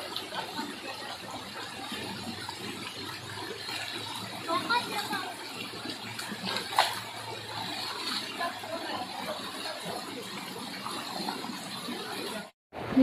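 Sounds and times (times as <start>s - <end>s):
stream running over stones: 0.0s - 12.6s.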